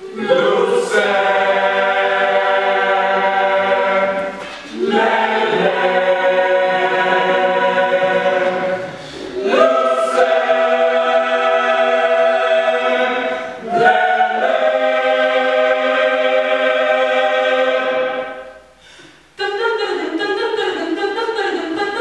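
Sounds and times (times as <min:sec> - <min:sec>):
choir singing held chords: 0:00.0 - 0:18.8.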